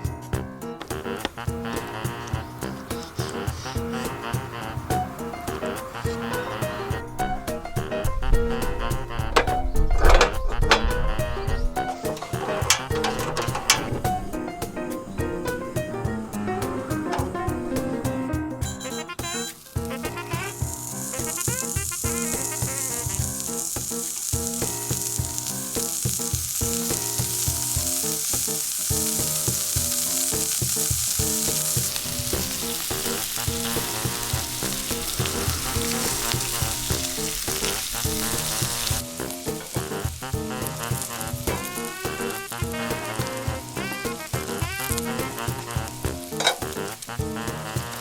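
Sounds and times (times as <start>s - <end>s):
background music: 0.0s - 48.0s
bacon sizzling: 0.0s - 48.0s.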